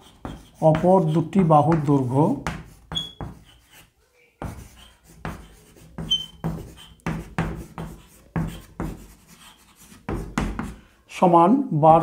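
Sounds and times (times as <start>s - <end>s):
chalk tapping and scraping on blackboard: 0.0s - 10.9s.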